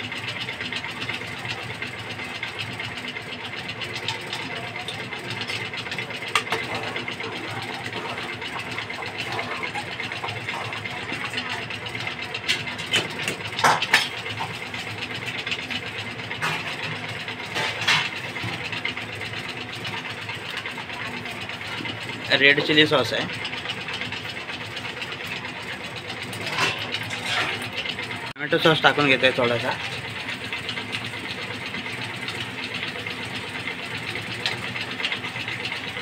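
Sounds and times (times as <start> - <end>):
gravy boiling in a pot: 0.0 - 36.0.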